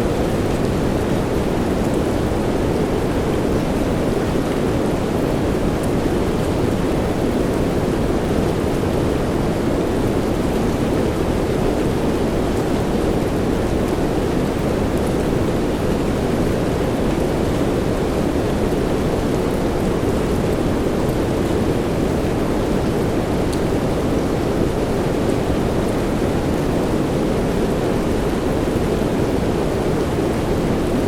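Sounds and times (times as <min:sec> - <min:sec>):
soft rain hiss: 0:00.0 - 0:31.0.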